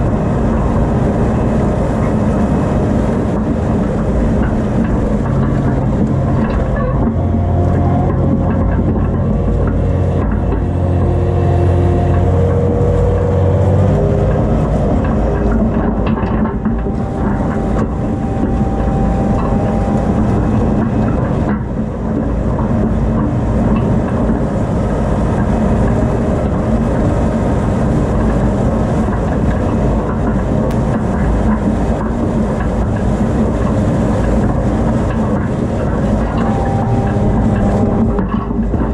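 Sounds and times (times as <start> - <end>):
tractor engine under load: 0.0 - 38.9.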